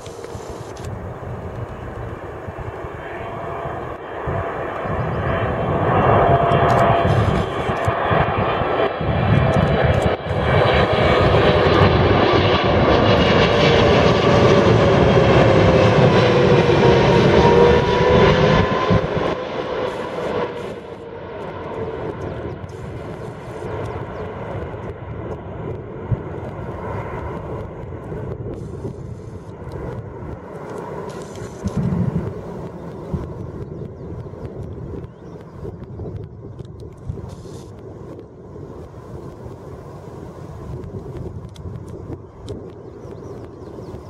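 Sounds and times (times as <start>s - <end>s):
jet engines passing overhead: 0.0s - 44.0s
jet rumble: 0.0s - 44.0s.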